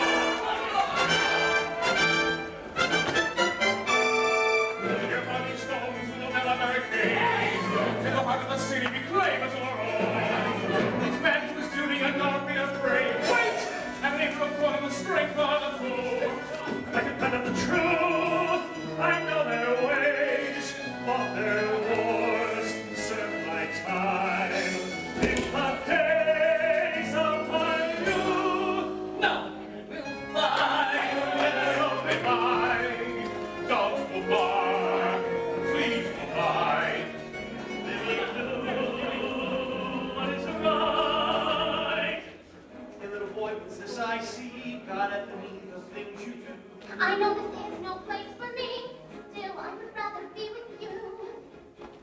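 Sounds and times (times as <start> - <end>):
pit orchestra playing: 0.0 - 49.5
singing voices: 4.4 - 49.0.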